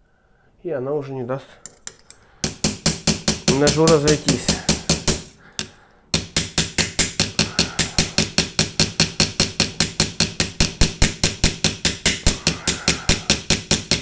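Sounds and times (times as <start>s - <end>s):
small hammer tapping metal pin: 1.6s - 14.0s.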